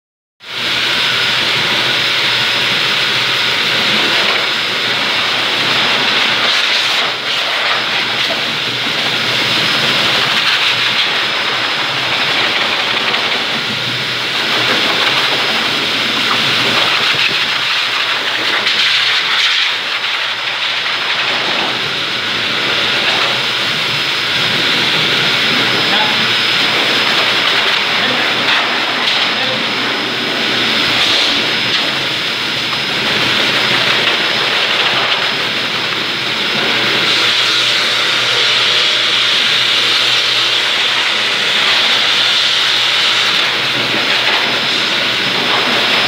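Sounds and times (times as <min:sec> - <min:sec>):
pet dryer blowing air: 0:00.4 - 0:46.0.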